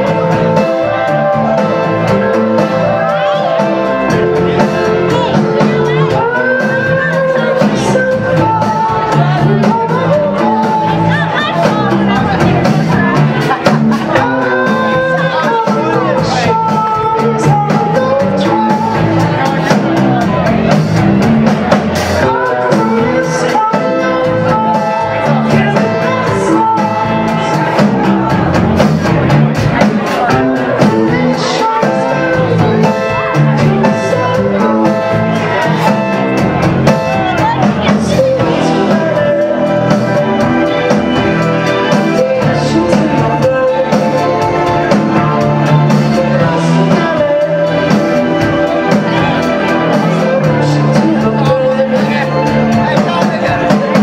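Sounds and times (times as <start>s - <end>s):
rock band playing live: 0.0s - 54.0s
steady drum beat: 0.0s - 54.0s.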